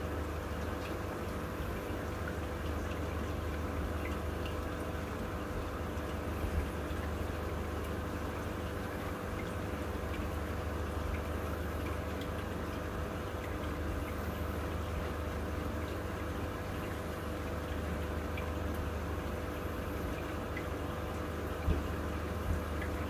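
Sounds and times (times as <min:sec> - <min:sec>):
aquarium water trickling and bubbling: 0:00.0 - 0:23.0
low steady hum: 0:00.0 - 0:23.0
small drips and pops: 0:00.0 - 0:23.0.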